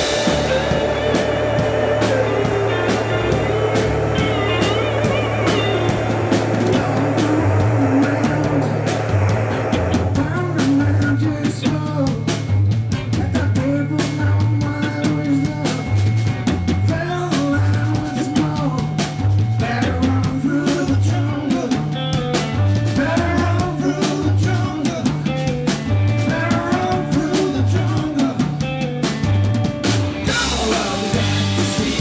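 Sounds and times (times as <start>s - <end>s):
rock music: 0.0s - 32.0s.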